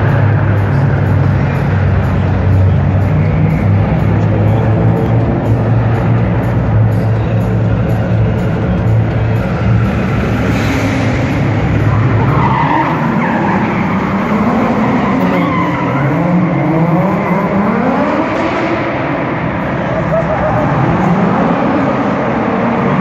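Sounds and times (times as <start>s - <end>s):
car engine revving: 0.0s - 23.0s
tyres skidding and squealing: 0.0s - 23.0s.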